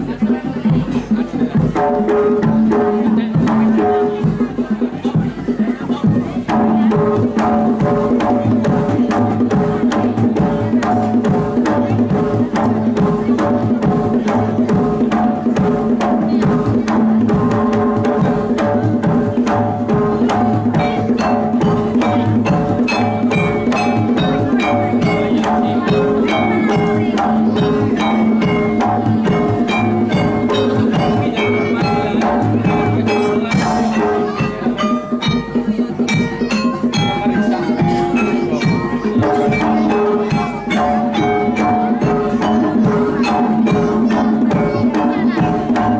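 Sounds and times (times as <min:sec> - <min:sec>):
rapid hand drum strokes: 0:00.0 - 0:45.9
ringing tuned percussion: 0:06.0 - 0:45.9.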